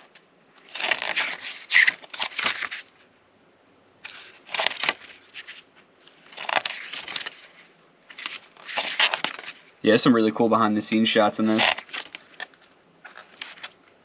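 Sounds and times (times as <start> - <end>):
paper pages being turned: 0.0 - 3.1, 4.0 - 9.8, 11.4 - 14.0.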